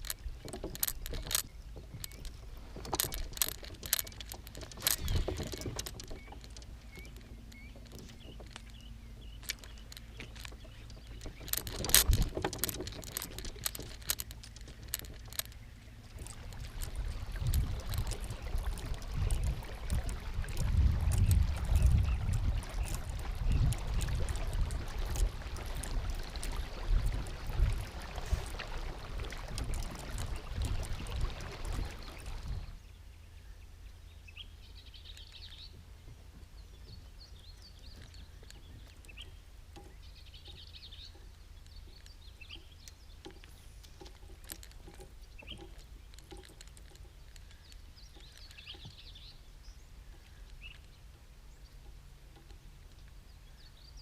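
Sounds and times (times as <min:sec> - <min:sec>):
small birds chirping: 0:00.0 - 0:27.6, 0:29.3 - 0:54.0.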